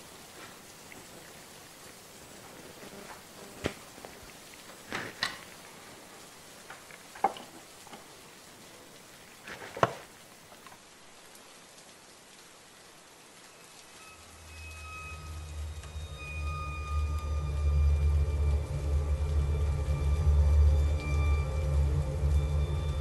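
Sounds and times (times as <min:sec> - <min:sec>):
rain-like hiss: 0:00.0 - 0:23.0.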